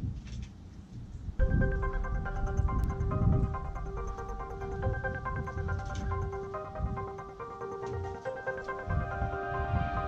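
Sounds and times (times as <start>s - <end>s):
electronic background music: 1.4s - 10.0s.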